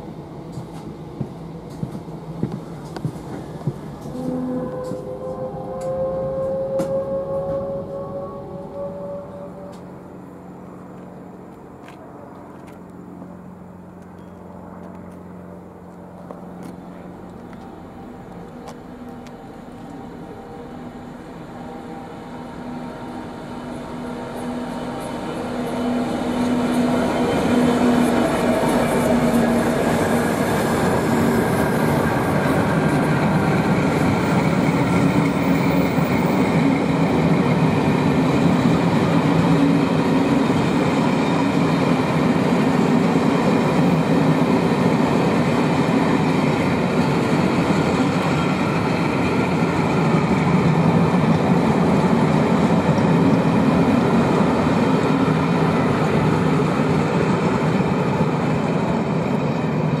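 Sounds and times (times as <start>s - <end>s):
train wheels rumbling on track: 0.0s - 60.0s.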